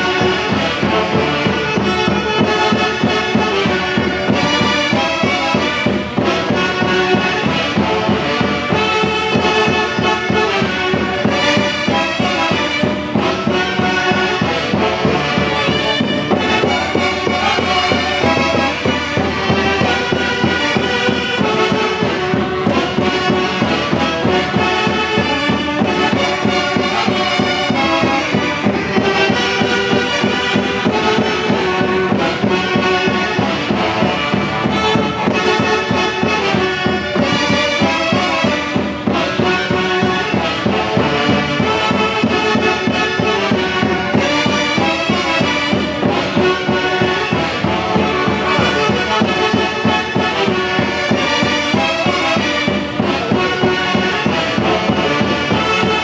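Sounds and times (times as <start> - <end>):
drums and timbales: 0.0 - 56.0
live band playing: 0.0 - 56.0
saxophone melody: 0.0 - 56.0.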